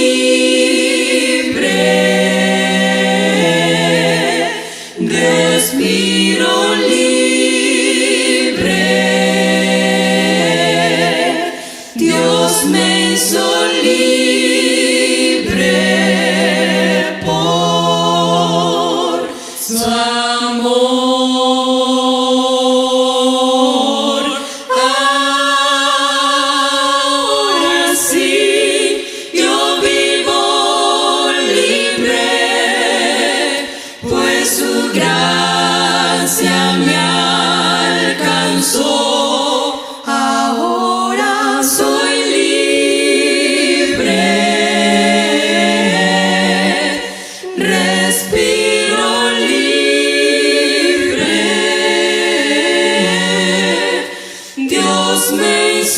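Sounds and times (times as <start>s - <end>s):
women's vocal quartet singing: 0.0s - 55.9s.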